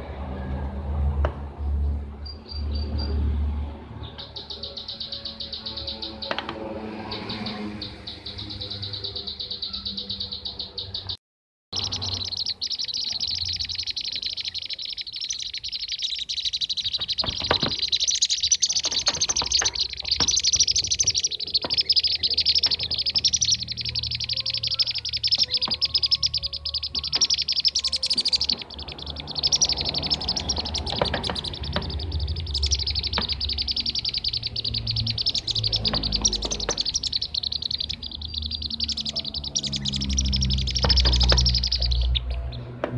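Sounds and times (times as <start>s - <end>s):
bee-eaters chattering: 4.1s - 11.2s, 11.8s - 42.7s.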